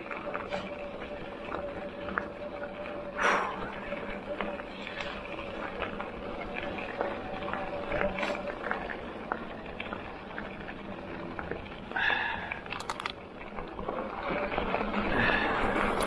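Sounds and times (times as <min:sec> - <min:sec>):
stones and bike rattling: 0:00.0 - 0:16.0.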